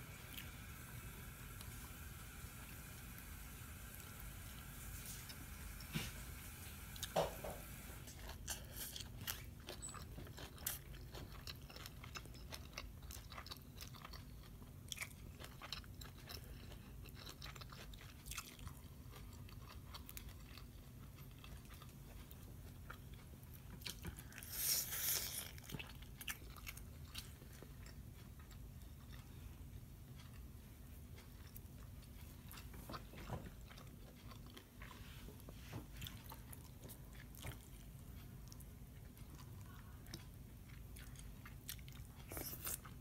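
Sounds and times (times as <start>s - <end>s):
crunchy chewing: 8.1s - 43.0s.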